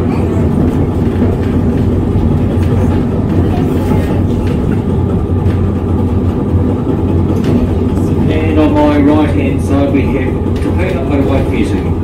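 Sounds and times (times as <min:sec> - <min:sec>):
electric tram motor humming: 0:00.0 - 0:12.0.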